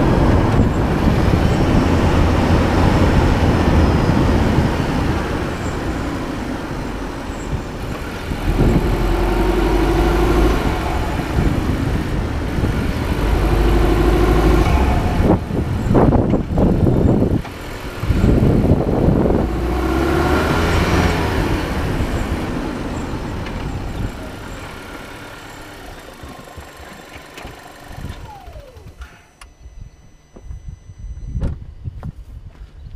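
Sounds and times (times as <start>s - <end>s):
road and wind noise: 0.0s - 32.9s.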